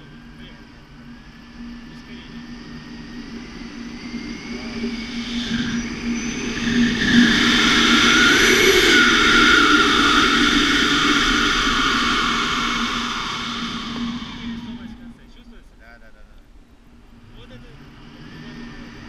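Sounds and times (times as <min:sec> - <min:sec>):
wind rushing over microphone: 0:00.0 - 0:15.4, 0:17.0 - 0:19.0
steady low hum: 0:00.0 - 0:19.0.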